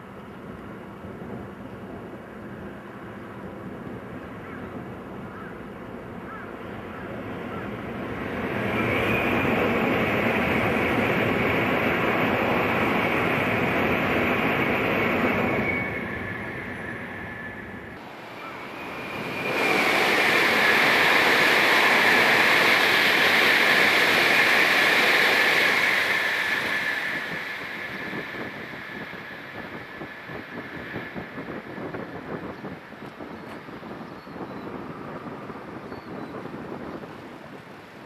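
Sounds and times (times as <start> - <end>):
high-speed train passing: 0.0 - 38.0.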